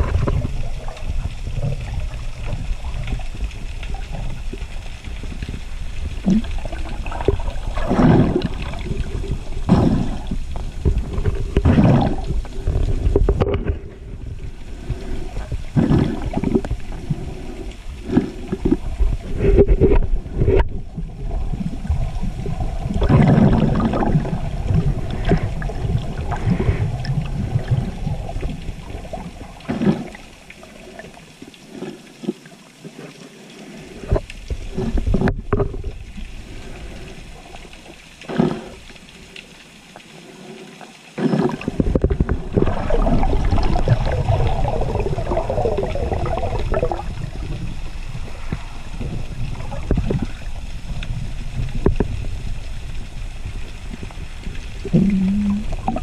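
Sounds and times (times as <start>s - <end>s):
water rushing and sloshing: 0.0s - 56.0s.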